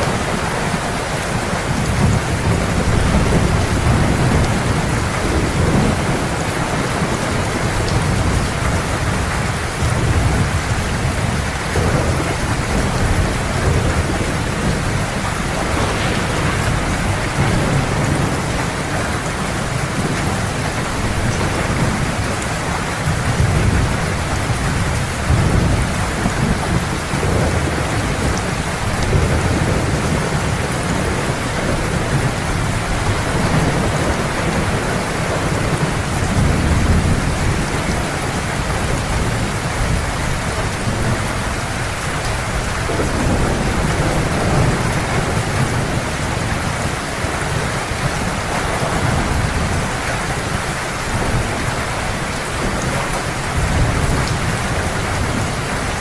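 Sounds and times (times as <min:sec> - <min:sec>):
low thunder rumbling: 0:00.0 - 0:41.6, 0:42.5 - 0:56.0
heavy rain: 0:00.0 - 0:56.0.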